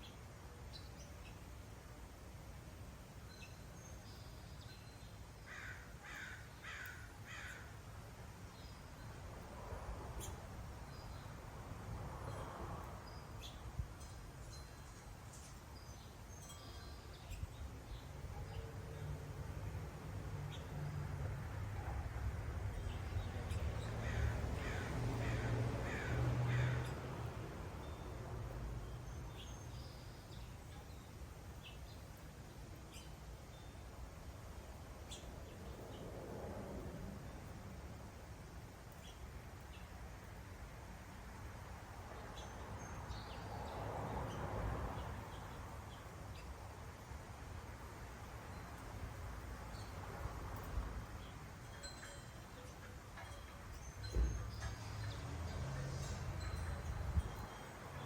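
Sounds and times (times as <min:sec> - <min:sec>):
faint outdoor background noise: 0:00.0 - 0:58.0.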